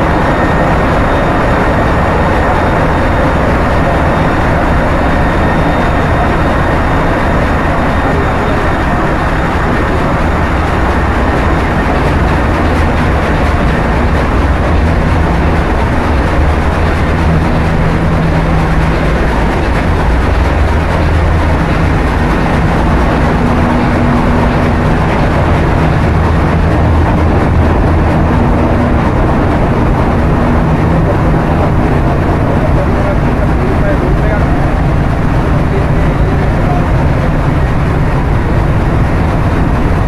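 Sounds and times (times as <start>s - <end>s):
deep hum: 0.0s - 40.0s
diesel engines and pumps: 0.0s - 40.0s.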